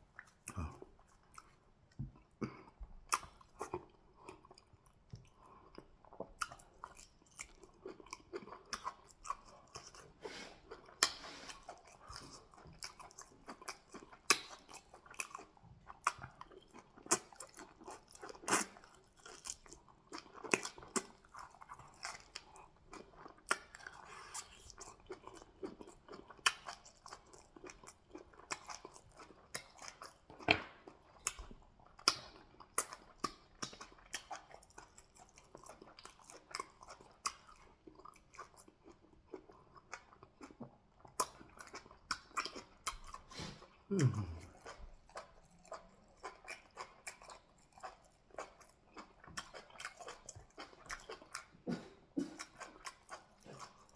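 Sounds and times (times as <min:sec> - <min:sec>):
wet chewing with smacks: 0:00.1 - 0:53.9.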